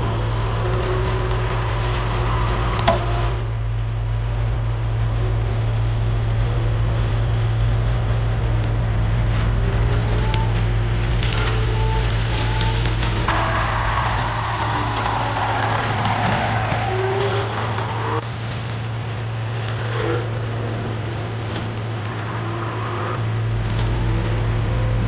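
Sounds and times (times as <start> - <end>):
heavy machinery engine running: 0.0 - 25.0.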